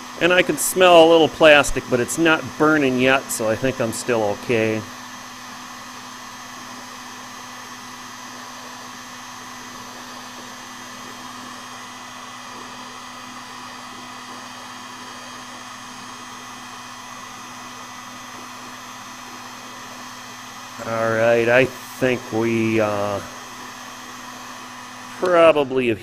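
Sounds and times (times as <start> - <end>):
heat gun blowing whir: 0.0 - 26.0.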